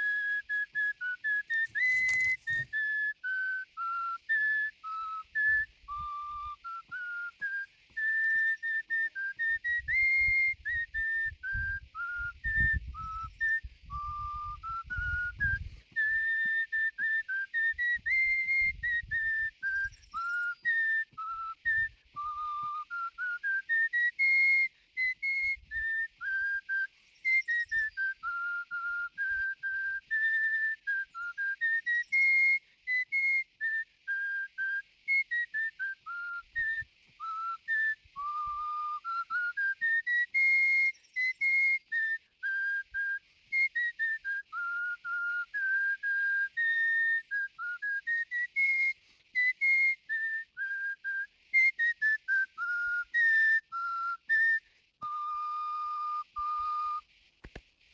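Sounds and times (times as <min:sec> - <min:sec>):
person whistling a melody: 0:00.0 - 0:57.6.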